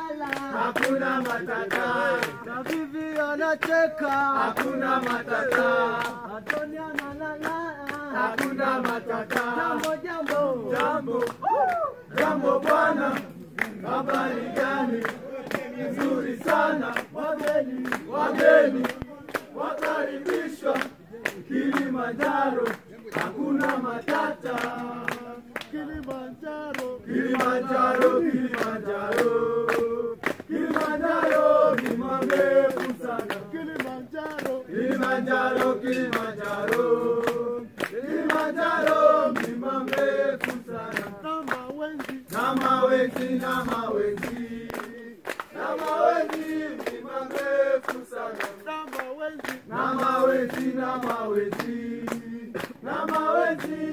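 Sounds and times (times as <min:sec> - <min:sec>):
group singing and chanting: 0:00.0 - 0:53.9
people clapping: 0:00.0 - 0:53.9.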